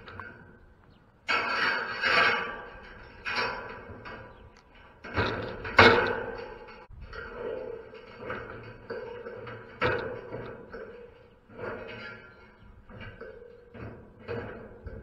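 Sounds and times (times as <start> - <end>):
wire clattering against metal fence: 1.2 - 15.0.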